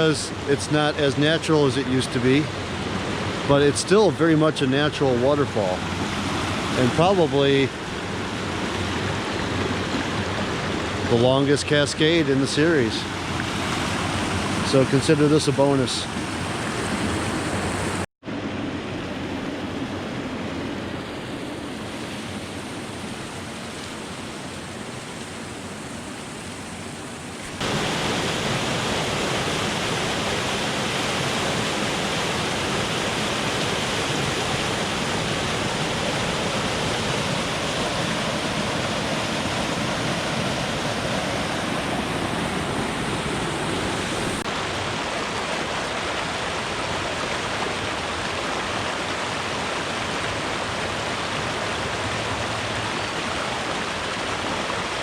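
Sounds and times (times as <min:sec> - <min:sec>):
waterfall rushing: 0:00.0 - 0:18.1, 0:21.8 - 0:55.0.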